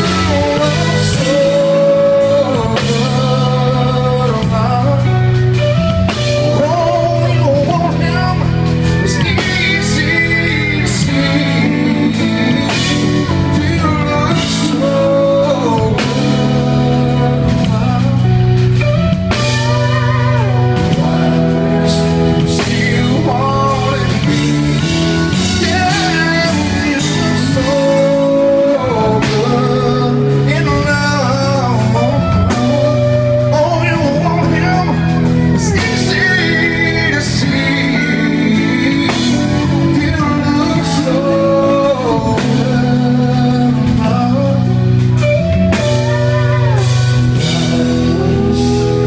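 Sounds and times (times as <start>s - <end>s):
drums: 0.0s - 49.0s
electric guitar: 0.0s - 49.0s
man singing country ballad: 0.0s - 49.0s.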